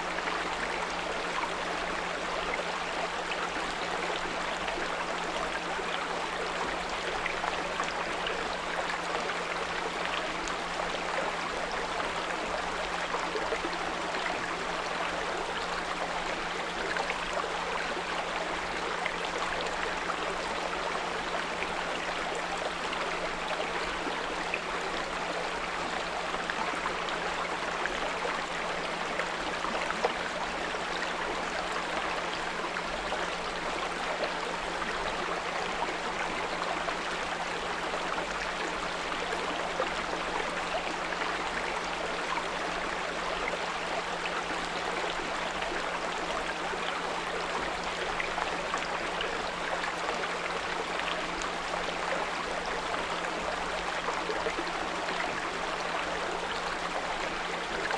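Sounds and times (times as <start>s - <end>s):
brook water flowing: 0.0s - 57.9s.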